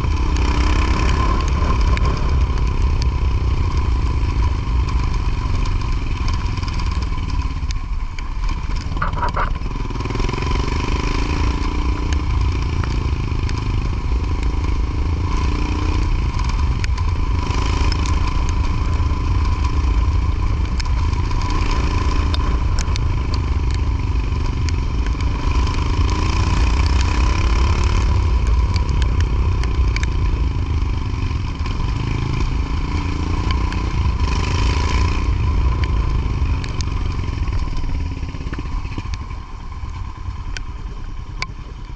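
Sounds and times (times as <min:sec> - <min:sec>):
light clattering ticks: 0:00.0 - 0:41.9
motorcycle engine running: 0:00.0 - 0:41.9.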